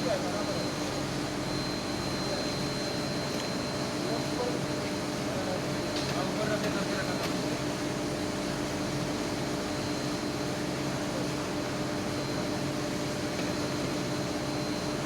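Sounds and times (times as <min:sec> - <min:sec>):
industrial furnace humming: 0:00.0 - 0:15.0.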